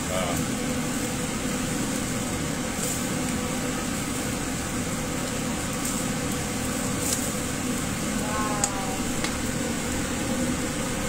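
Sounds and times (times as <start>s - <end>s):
ventilation fan hum: 0.0s - 11.0s.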